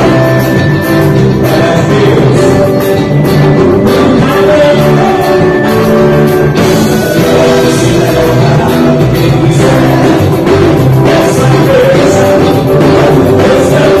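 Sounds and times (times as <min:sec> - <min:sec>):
drums and cymbals: 0:00.0 - 0:14.0
keyboard: 0:00.0 - 0:14.0
man singing: 0:00.0 - 0:14.0.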